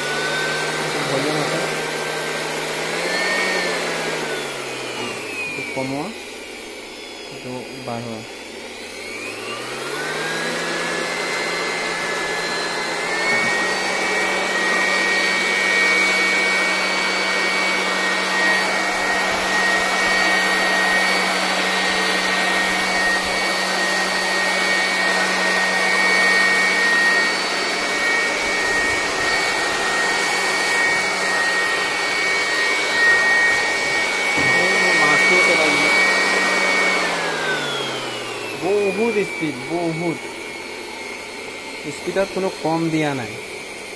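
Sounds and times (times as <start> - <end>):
electric blower motor whine: 0.0 - 43.9.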